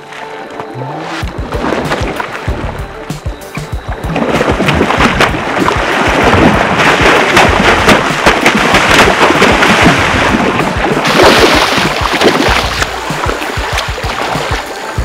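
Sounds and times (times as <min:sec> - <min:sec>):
fish splashing in water: 0:01.3 - 0:02.7, 0:03.7 - 0:15.0.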